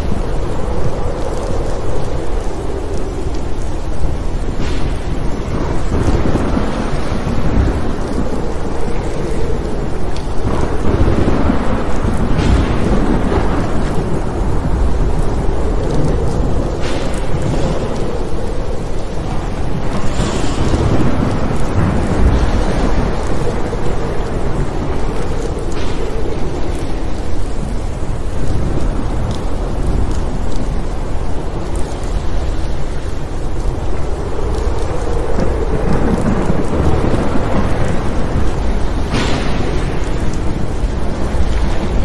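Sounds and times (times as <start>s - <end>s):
heavy rain: 0.0s - 42.0s
rolling thunder: 0.0s - 42.0s.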